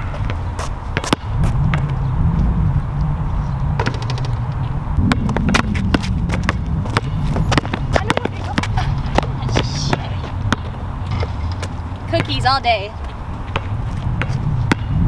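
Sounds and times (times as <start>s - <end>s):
low rumble: 0.0s - 12.1s
basketball bouncing on asphalt: 0.0s - 15.0s.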